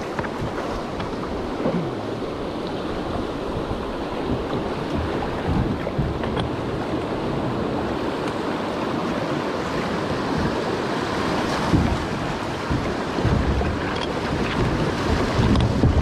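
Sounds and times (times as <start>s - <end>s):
river water rushing: 0.0s - 16.0s
wind buffeting the microphone: 0.0s - 16.0s.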